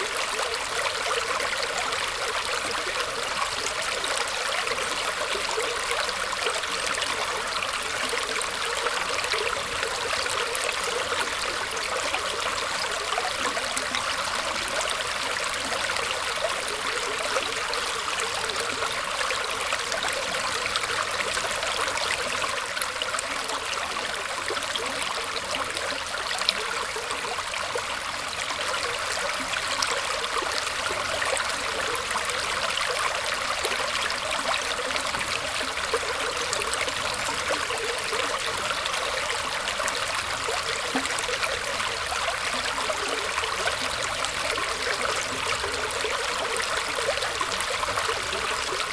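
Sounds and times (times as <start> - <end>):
stream trickling and flowing: 0.0 - 48.9
water splashes and drips: 0.0 - 48.9.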